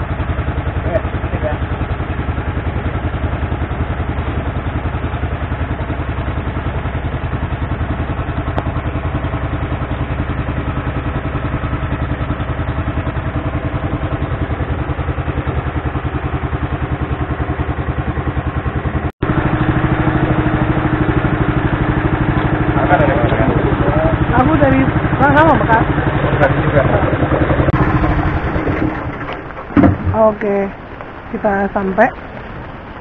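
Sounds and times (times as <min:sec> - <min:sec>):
boat motor running: 0:00.0 - 0:33.0.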